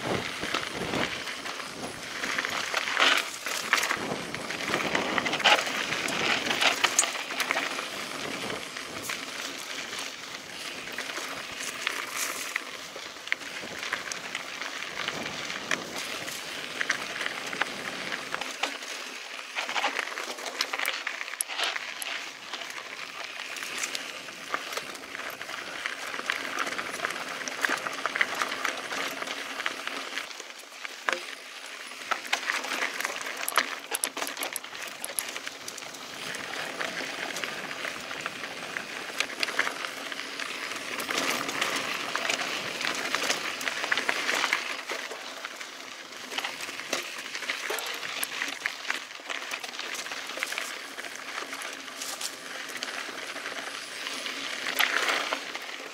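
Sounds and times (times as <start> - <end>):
bike clicks and rattles: 0.0 - 55.9
tyres crunching on gravel: 0.0 - 55.9.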